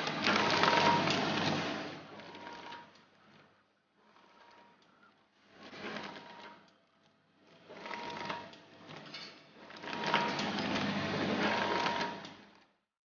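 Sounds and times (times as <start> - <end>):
packing machine clatter and whine: 0.0 - 12.8.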